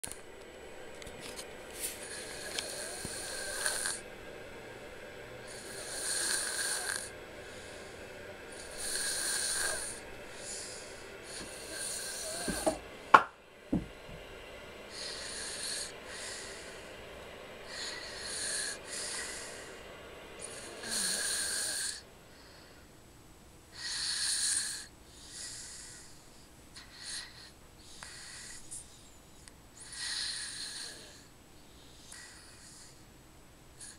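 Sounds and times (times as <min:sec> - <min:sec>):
hissy snoring breaths: 0:01.3 - 0:04.2, 0:05.4 - 0:12.8, 0:14.9 - 0:23.0, 0:23.7 - 0:33.2.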